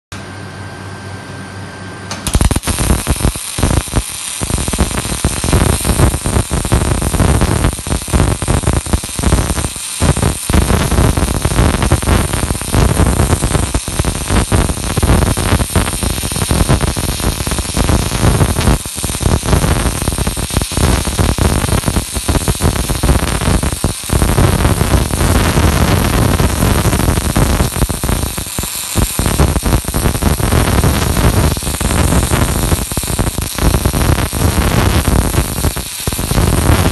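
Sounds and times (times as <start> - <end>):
welding arc crackling and sizzling: 2.1 - 36.9.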